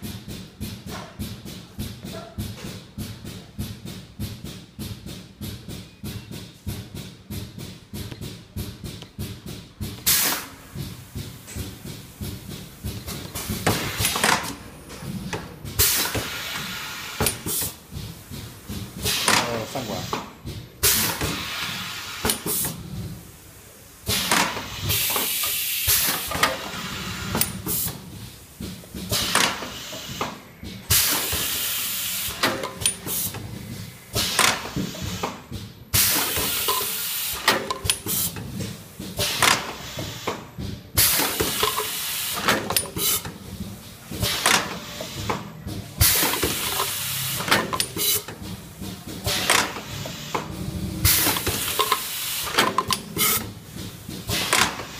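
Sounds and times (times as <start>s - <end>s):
machine clicks and knocks: 0.0s - 23.0s, 24.0s - 54.9s
air hissing: 10.0s - 54.9s.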